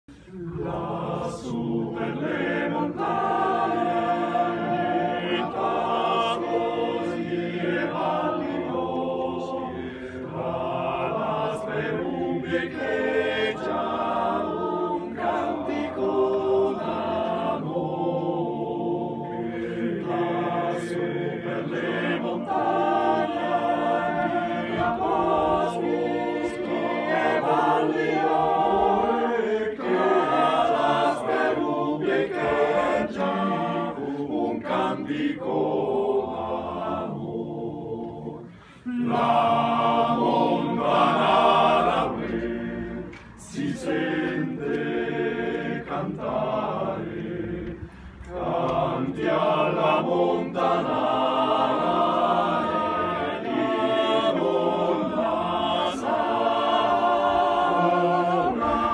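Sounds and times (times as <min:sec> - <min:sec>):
male choir singing a cappella: 0:00.1 - 0:58.9.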